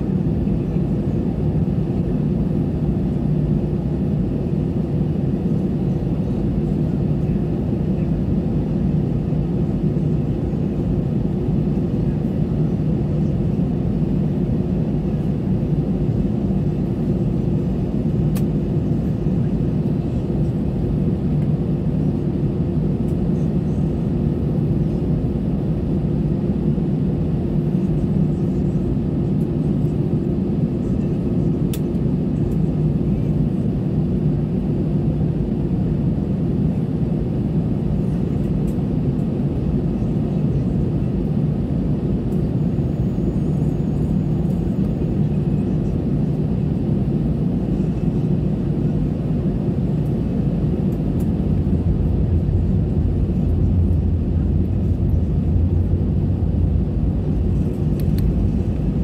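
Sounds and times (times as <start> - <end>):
airplane cabin engine drone: 0.0 - 59.0.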